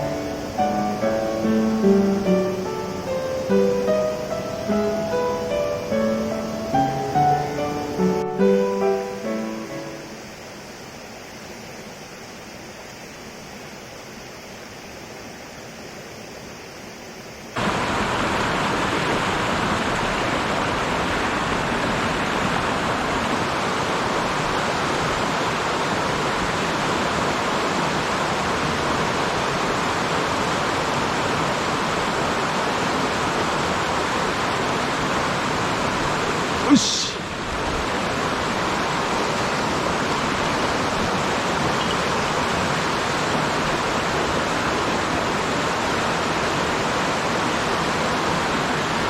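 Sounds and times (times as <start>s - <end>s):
mountain stream rushing: 0.0s - 49.0s.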